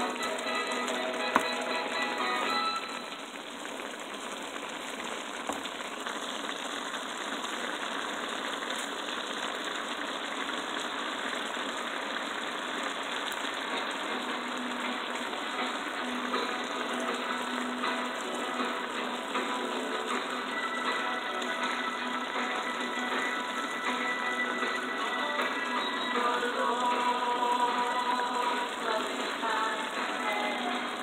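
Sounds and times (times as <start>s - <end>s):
food sizzling in a pan: 0.0s - 31.0s.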